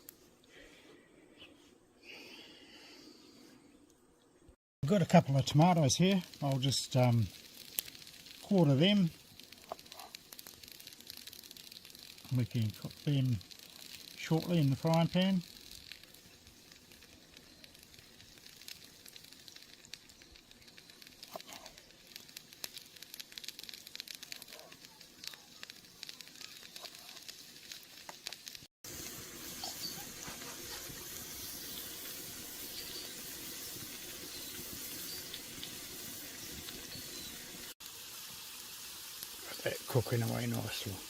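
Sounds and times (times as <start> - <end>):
vegetables sizzling in a pan: 4.9 - 41.0.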